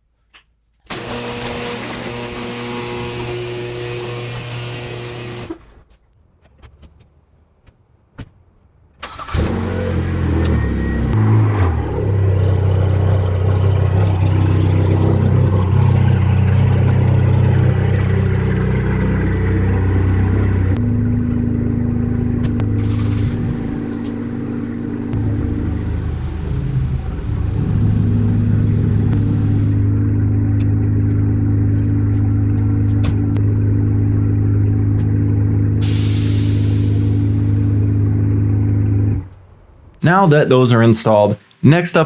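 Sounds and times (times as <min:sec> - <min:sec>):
car engine starting and running: 0:00.9 - 0:05.8, 0:09.0 - 0:42.0.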